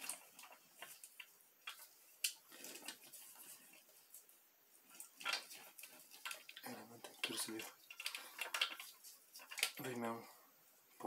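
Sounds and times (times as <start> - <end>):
faint rustling: 0.0 - 11.0.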